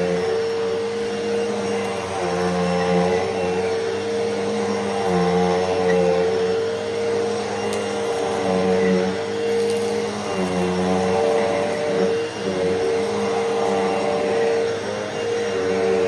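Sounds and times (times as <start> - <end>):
upright vacuum cleaner running: 0.0 - 16.0.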